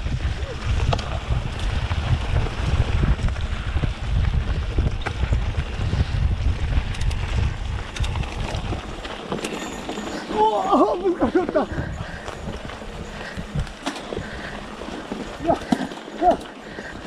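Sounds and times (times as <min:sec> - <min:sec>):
bike clicks and rattles: 0:00.0 - 0:17.0
wind buffeting microphone: 0:00.0 - 0:17.0
tyres rolling on dirt: 0:00.1 - 0:17.0.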